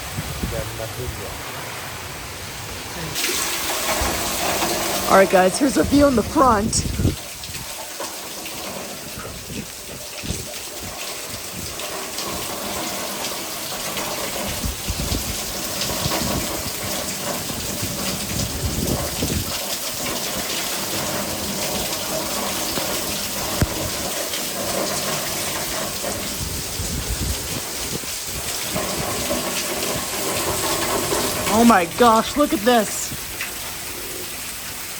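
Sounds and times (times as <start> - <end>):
wind gusts buffeting microphone: 0.0 - 7.9, 8.5 - 12.8, 14.0 - 34.5
heavy rain pouring: 0.0 - 34.9.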